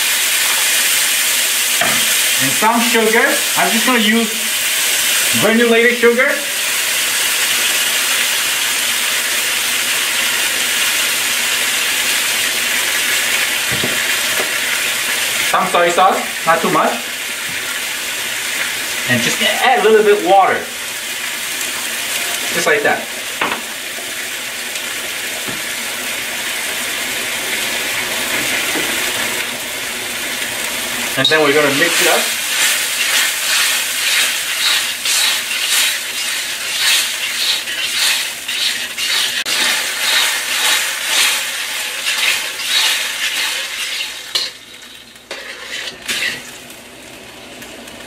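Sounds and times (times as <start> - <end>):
vegetables sizzling in a wok: 0.0 - 48.0.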